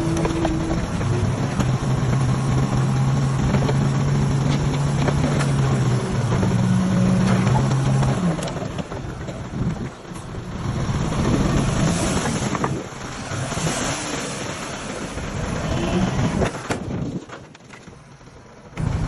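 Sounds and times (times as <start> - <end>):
heavy diesel engine rumbling: 0.0 - 19.0.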